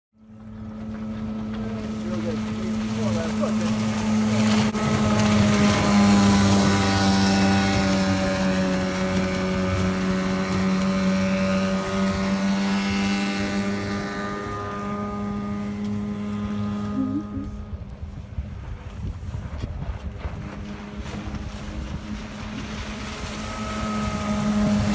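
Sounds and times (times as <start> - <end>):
outboard motor boat passing: 0.2 - 24.9.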